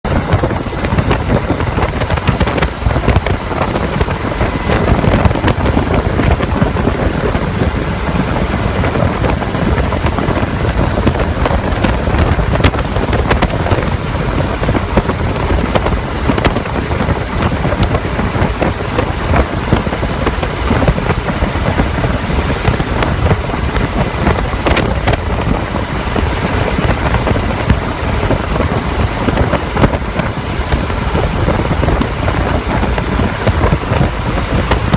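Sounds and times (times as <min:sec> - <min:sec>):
helicopter rotor and engine: 0:00.0 - 0:34.9.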